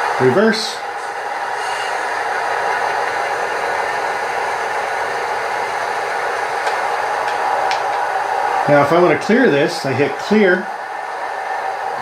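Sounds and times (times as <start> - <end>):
model locomotive engine sound hum: 0.0 - 12.0.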